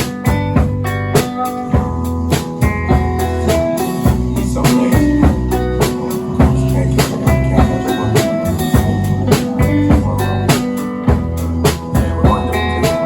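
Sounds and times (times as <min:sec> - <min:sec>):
drum kit steady beat: 0:00.0 - 0:13.0
electric guitar: 0:00.0 - 0:13.0
sustained low notes: 0:00.3 - 0:12.8.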